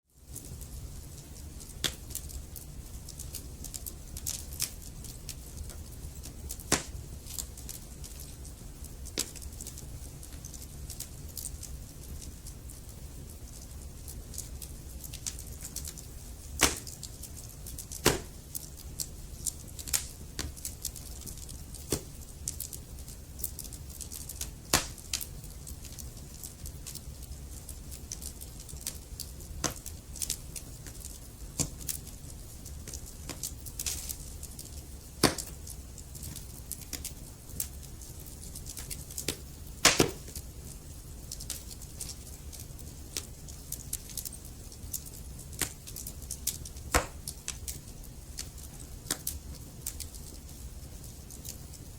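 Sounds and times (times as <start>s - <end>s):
soft rumble of fire: 0.0s - 51.9s
sharp pops of burning wood: 1.2s - 2.4s, 3.1s - 12.4s, 14.2s - 32.1s, 32.7s - 40.4s, 41.3s - 51.8s.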